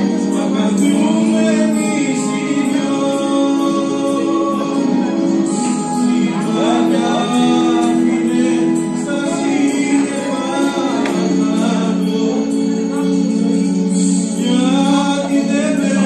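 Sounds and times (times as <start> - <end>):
instrumental accompaniment: 0.0 - 16.0
man singing into microphone: 0.0 - 16.0.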